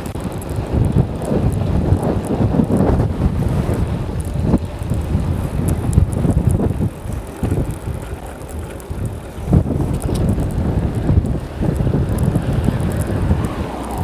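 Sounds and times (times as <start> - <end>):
faint ticks: 0.0 - 14.0
wind buffeting microphone: 0.0 - 14.0.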